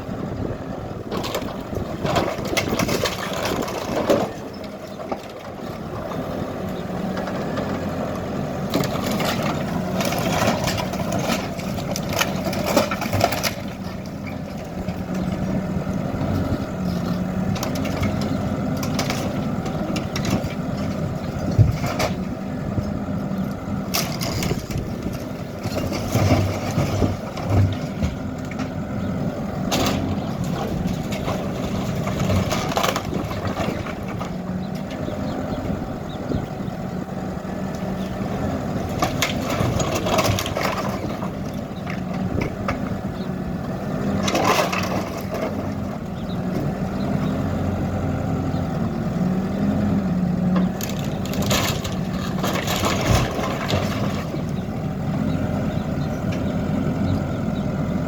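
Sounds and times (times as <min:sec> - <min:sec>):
diesel engine running: 0:00.0 - 0:58.0
crunching and knocking of debris: 0:01.1 - 0:29.0, 0:29.6 - 0:35.1, 0:37.8 - 0:43.0, 0:43.9 - 0:46.9, 0:49.7 - 0:55.6.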